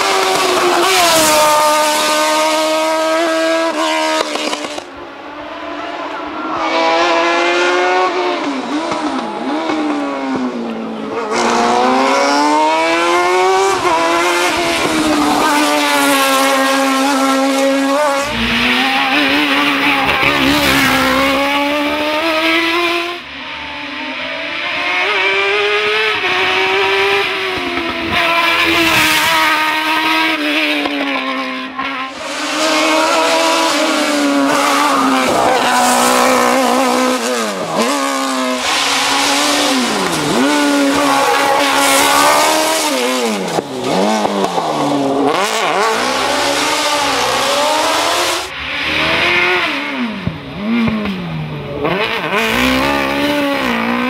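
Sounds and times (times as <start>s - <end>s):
racing car engine revving: 0.0s - 4.9s, 6.6s - 23.2s, 24.0s - 54.0s.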